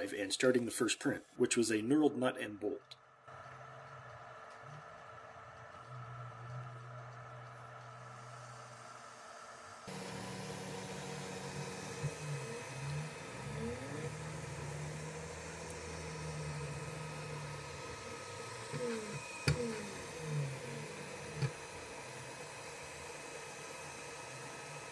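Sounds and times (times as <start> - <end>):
printer fans humming: 3.3 - 24.9
stepper motors whining: 3.3 - 24.9.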